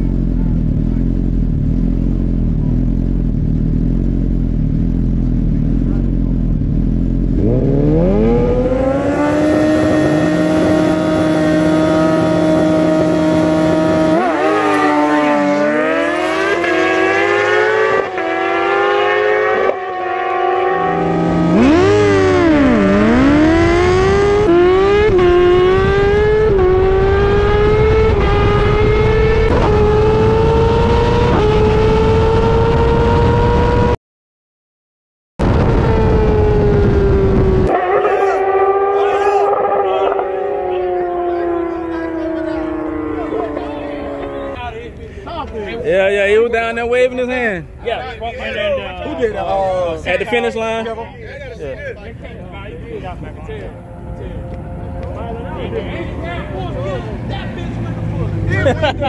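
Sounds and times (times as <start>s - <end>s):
motorcycle engine revving: 0.0s - 34.0s, 35.4s - 47.8s, 48.4s - 59.0s.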